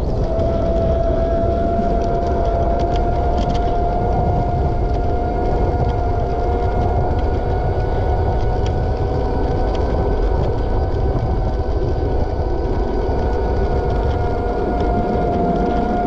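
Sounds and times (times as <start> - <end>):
motor whine rising in pitch: 0.0 - 16.0
rolling wheels: 0.0 - 16.0
wind rumble: 0.0 - 16.0.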